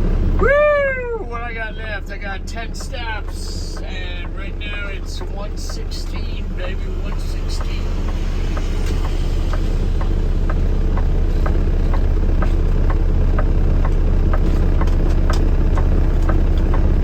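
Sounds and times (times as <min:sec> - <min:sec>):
vehicle engine and road noise: 0:00.0 - 0:17.0
light regular ticking: 0:01.6 - 0:17.0.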